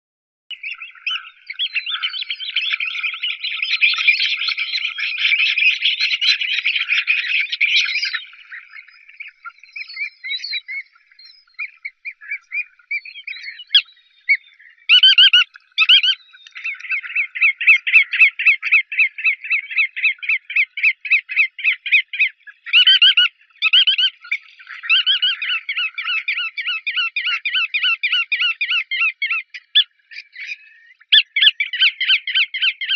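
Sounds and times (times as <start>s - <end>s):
rapid repeated bird notes: 0.5s - 32.9s
shorebird calls chattering: 0.5s - 32.9s.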